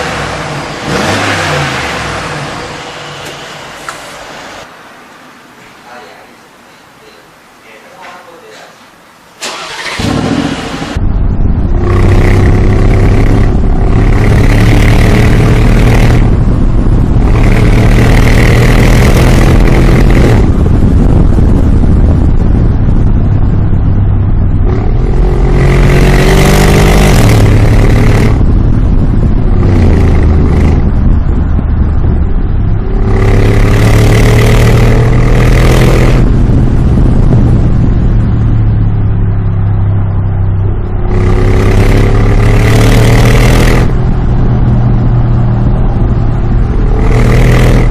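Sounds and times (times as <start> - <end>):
car engine revving: 0.0 - 4.7, 9.4 - 47.9.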